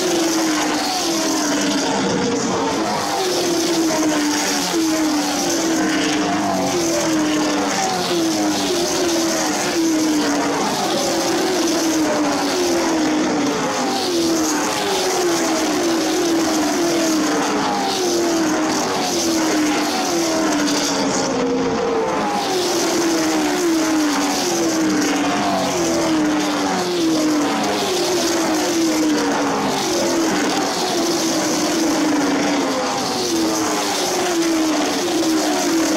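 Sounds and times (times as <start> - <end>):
race car engines passing by: 0.0 - 35.9.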